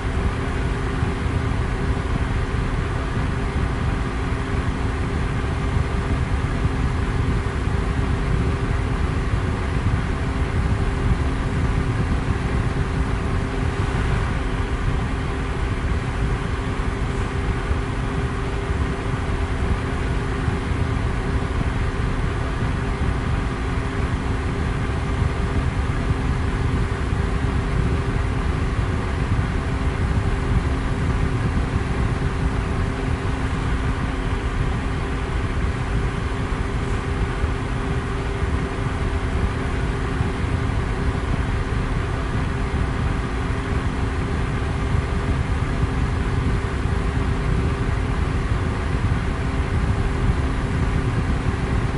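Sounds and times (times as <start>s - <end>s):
electric fan rushing air: 0.0s - 51.9s
faint motor hum: 0.0s - 51.9s.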